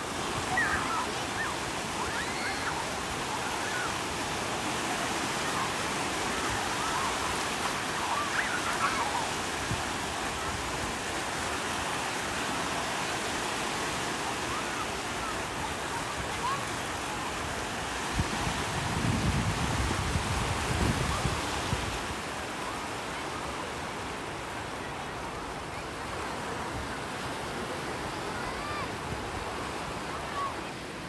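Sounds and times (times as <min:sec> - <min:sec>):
small waves breaking in shallows: 0:00.0 - 0:31.0.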